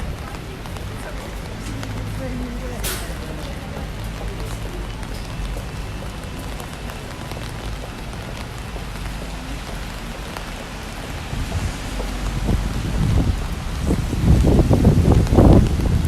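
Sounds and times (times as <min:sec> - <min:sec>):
rain pattering on an umbrella: 0:00.0 - 0:16.0.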